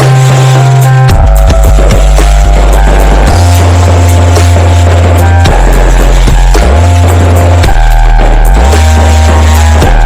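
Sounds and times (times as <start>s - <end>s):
loud dance music with heavy bass: 0.0s - 10.0s.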